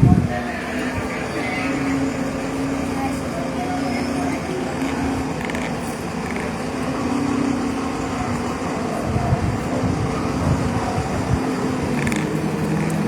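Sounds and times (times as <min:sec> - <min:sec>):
heavy vehicle engine rumble: 0:00.0 - 0:13.0.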